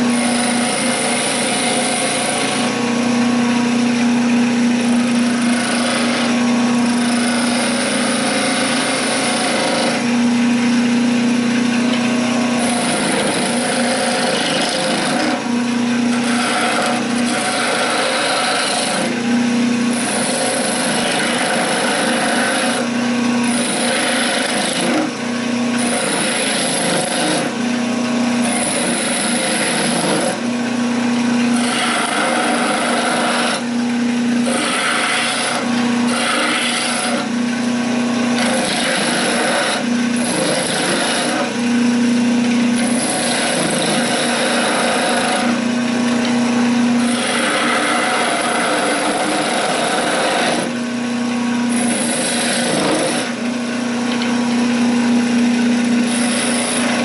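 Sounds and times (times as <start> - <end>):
lathe chisel cutting wood: 0.0 - 57.0
wood lathe humming: 0.0 - 57.0.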